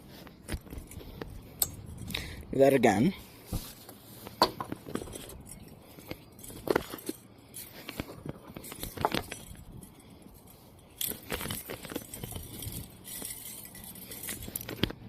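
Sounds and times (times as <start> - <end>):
fishing tackle clicking and clinking: 0.3 - 2.5, 4.3 - 15.0.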